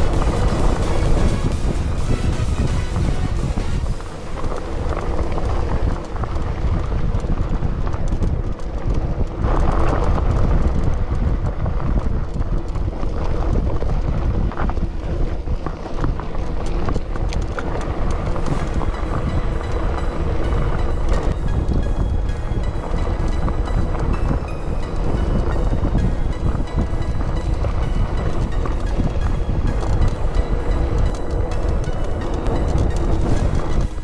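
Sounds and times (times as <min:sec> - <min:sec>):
tyres rumbling on dirt trail: 0:00.0 - 0:34.0.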